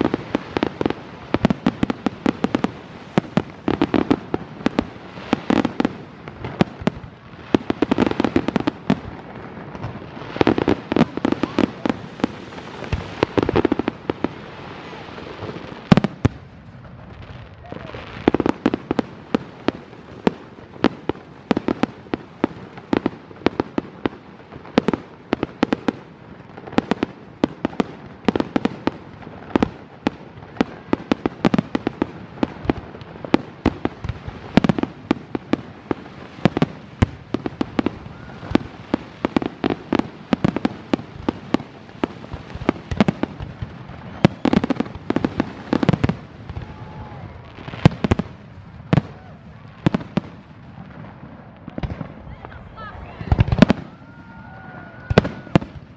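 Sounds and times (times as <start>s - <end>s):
fireworks bursts and crackling: 0.0s - 55.9s.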